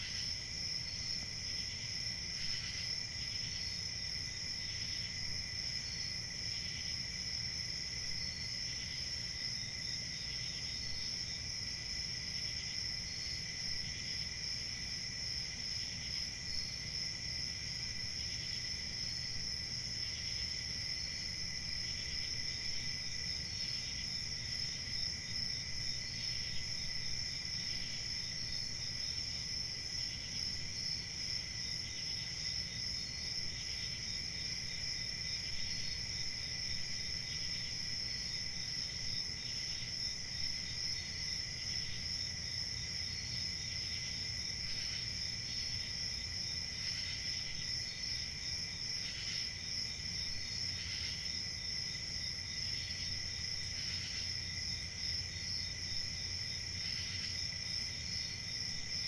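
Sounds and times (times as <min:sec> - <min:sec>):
crickets chirping in chorus: 0:00.0 - 0:59.0
fainter cricket chirp: 0:00.0 - 0:59.0.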